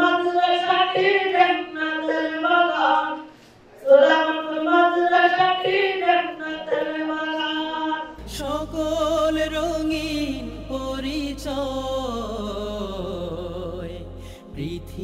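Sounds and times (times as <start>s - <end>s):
boy singing a chant: 0.0s - 12.8s
voice singing with vibrato: 0.0s - 15.0s.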